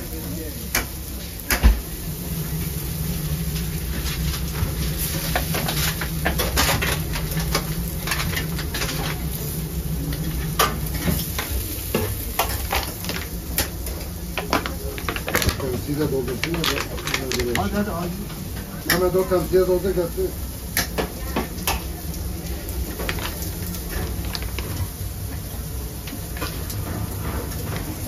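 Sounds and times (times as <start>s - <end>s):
fish sizzling on a grill: 0.0s - 28.0s.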